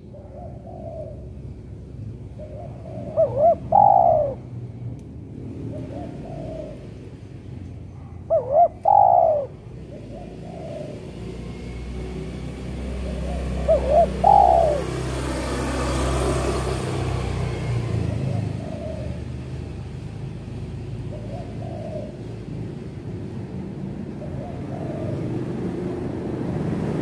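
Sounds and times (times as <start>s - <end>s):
doves cooing: 0.0s - 4.6s, 5.5s - 7.3s, 8.0s - 11.8s, 12.8s - 16.3s, 17.6s - 19.8s, 20.6s - 27.0s
road traffic rumble: 0.0s - 27.0s.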